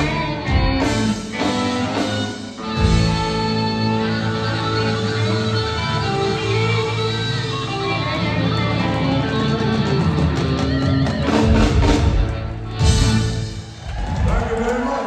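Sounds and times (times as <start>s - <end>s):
electric blues band playing: 0.0s - 14.6s.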